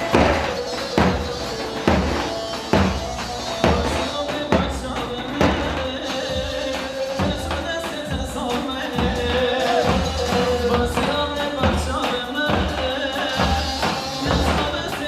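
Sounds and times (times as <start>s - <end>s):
drum machine beat: 0.0s - 15.0s.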